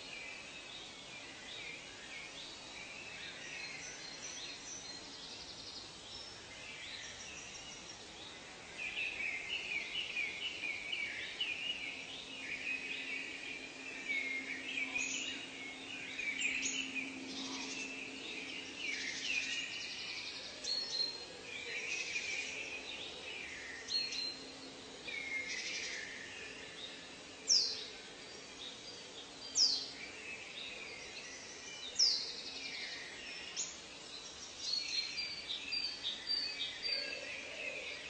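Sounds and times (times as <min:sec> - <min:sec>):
birds chirping and trilling: 0:00.0 - 0:38.0.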